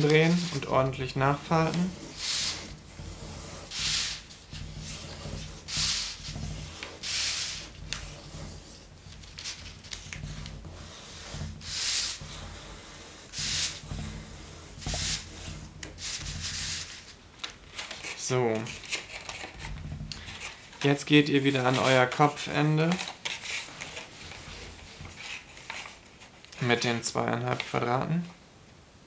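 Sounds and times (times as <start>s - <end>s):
fingers rubbing along paper: 0.0s - 26.0s.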